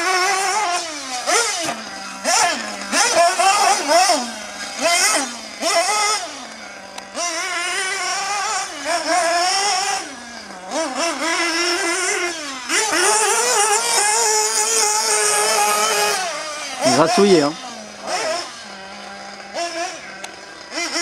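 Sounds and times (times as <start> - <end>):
model buggy engine whining: 0.0 - 21.0.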